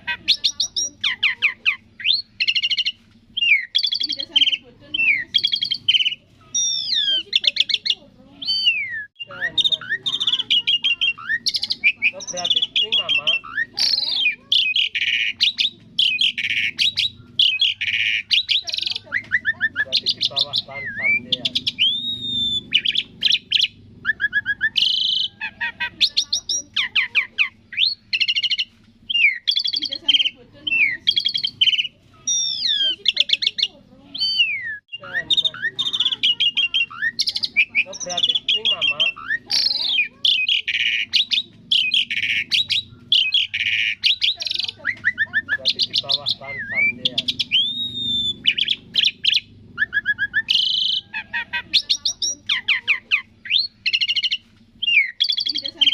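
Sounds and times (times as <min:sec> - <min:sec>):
starling singing: 0:00.0 - 0:55.9.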